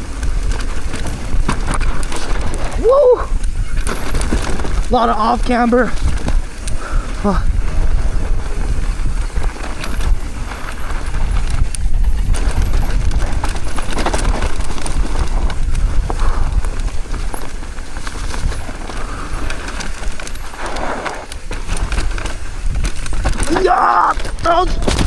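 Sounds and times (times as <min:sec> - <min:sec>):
bike chain and frame rattling: 0:00.0 - 0:25.0
bike tyres crunching over dirt: 0:00.0 - 0:25.0
wind buffeting microphone: 0:00.0 - 0:25.0.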